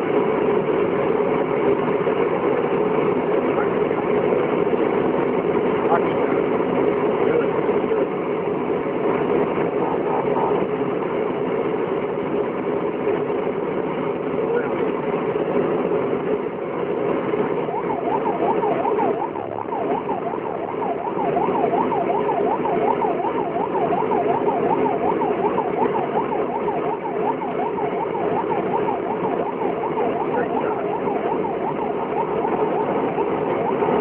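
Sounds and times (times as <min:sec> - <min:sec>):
heavy vehicle engine running: 0:00.0 - 0:34.0
siren yelping: 0:02.1 - 0:34.0.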